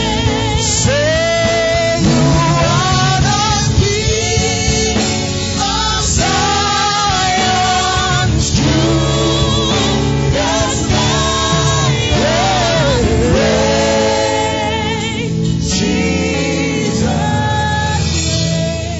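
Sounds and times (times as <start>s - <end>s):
instrumental accompaniment: 0.0s - 18.9s
man singing with vibrato: 0.0s - 18.9s
choir singing: 2.0s - 18.3s.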